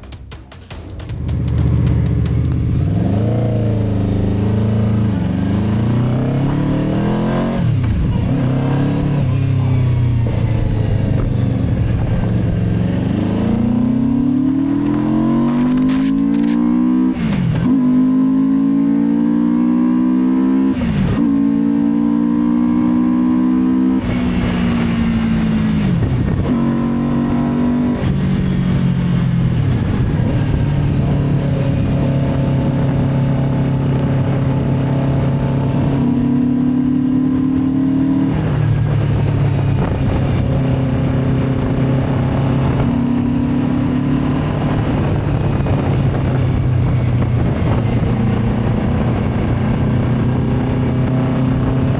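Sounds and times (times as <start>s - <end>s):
motorcycle engine changing gears: 0.0s - 51.9s.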